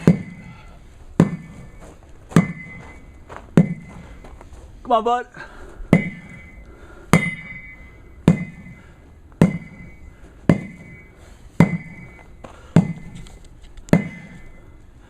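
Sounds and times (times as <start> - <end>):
sledgehammer striking a tire: 0.0 - 4.2, 5.9 - 13.3, 13.9 - 14.6.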